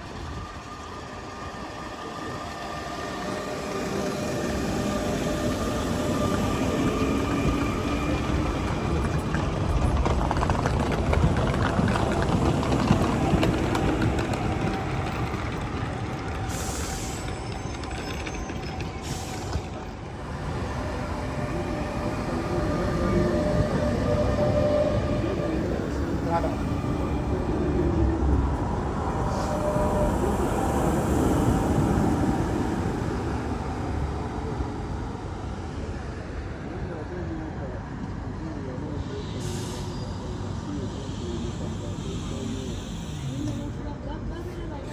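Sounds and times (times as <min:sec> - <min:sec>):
tram rumbling on tracks: 0:00.0 - 0:44.9.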